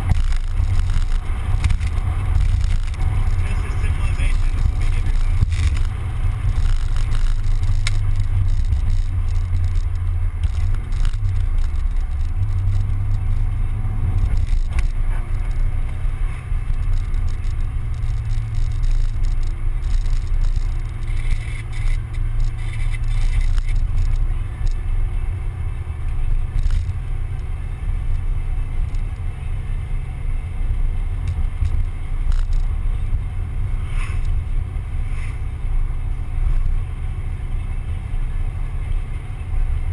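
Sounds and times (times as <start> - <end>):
car engine: 0.0 - 39.9
road noise: 0.0 - 39.9
wind rumble on microphone: 0.0 - 39.9.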